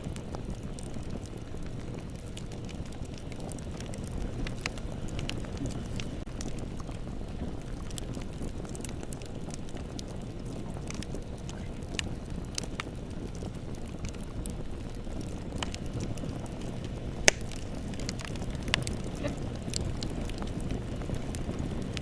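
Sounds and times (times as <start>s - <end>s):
bonfire rumbling: 0.0s - 22.0s
burning wood crackling and popping: 0.0s - 22.0s.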